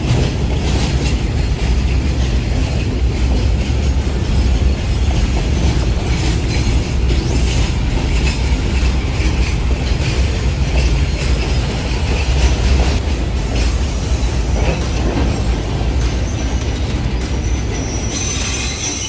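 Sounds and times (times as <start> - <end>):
model train rumbling on track: 0.0 - 19.0
wheels clicking over rails: 0.0 - 19.0.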